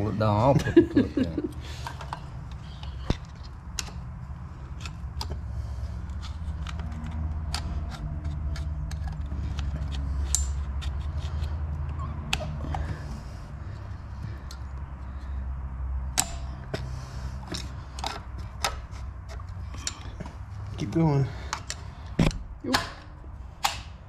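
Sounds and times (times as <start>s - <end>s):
small metallic clicks and scrapes: 1.8s - 14.8s, 16.1s - 24.0s.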